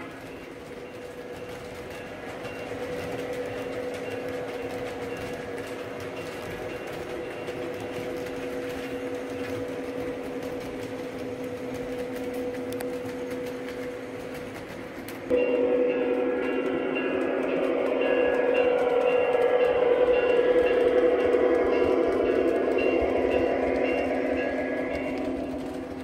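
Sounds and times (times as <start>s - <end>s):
constant hum: 0.0s - 26.0s
model train wheels rumbling on rail: 0.0s - 26.0s.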